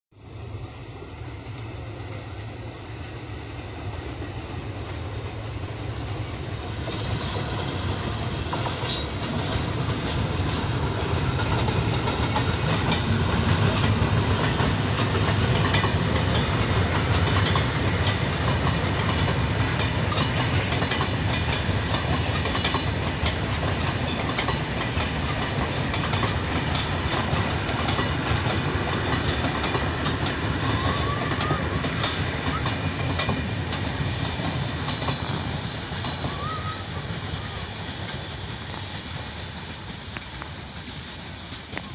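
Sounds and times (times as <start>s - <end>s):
passenger train rumbling past: 0.1s - 41.9s
wheels clacking over rail joints: 5.8s - 41.9s.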